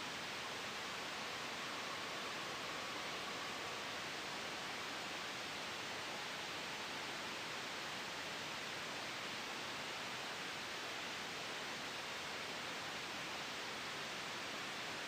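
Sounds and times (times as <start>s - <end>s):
gentle breeze: 0.0s - 15.0s
soft white noise hiss: 0.0s - 15.0s.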